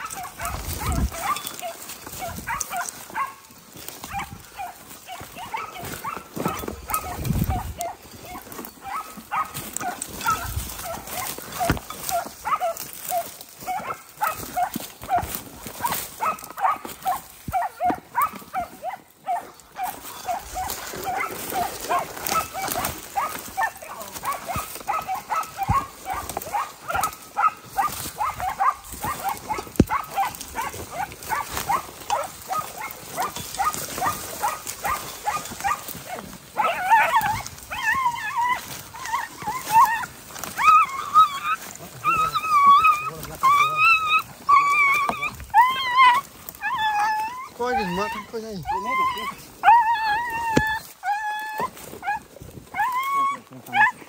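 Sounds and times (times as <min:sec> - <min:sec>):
dogs barking rapidly: 0:00.0 - 0:54.0.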